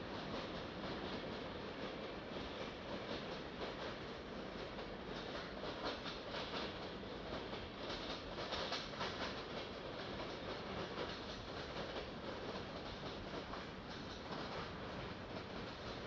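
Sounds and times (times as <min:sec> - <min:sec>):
steel wheels on rail: 0:00.0 - 0:16.0
faint clicks over rail joints: 0:00.1 - 0:16.0.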